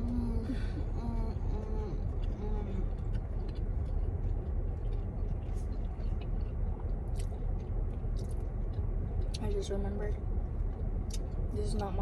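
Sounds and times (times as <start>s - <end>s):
people chewing chicken wings: 0.0s - 11.8s
low rumble inside car: 0.0s - 12.0s.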